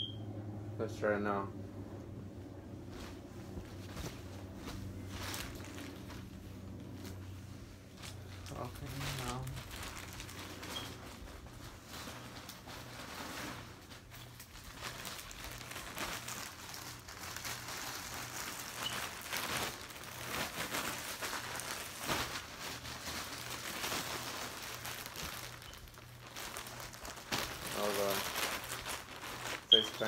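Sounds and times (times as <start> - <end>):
nylon clothing rustling: 2.4 - 30.0.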